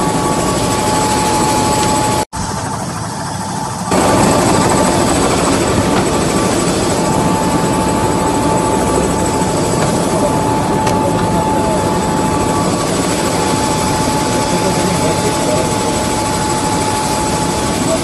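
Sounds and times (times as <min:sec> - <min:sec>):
helicopter rotor and turbine: 0:00.0 - 0:18.0
high turbine whine: 0:00.0 - 0:18.0.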